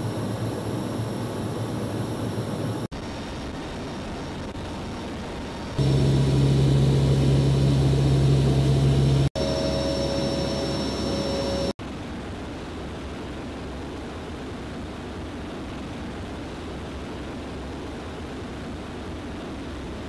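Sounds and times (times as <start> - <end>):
helicopter engines and rotors droning: 0.0 - 20.0
strong low steady hum: 0.0 - 20.0.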